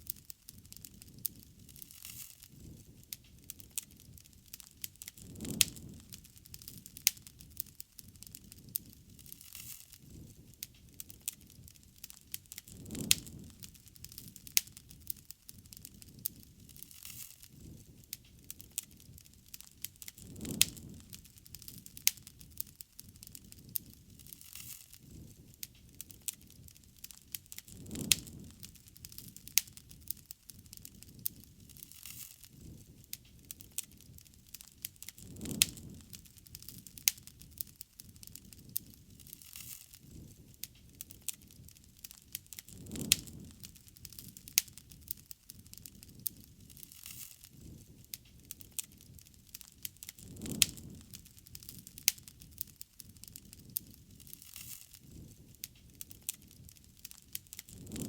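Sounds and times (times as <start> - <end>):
bonfire crackling and popping: 0.0 - 58.0
low rush of flame: 0.0 - 58.0.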